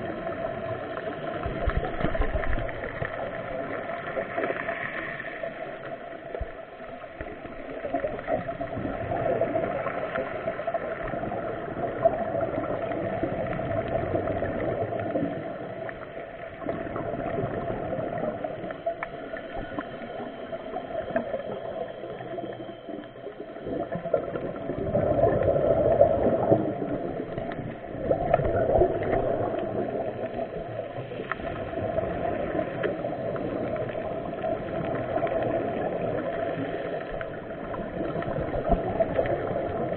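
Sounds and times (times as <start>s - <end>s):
muffled underwater gurgling: 0.0s - 39.9s.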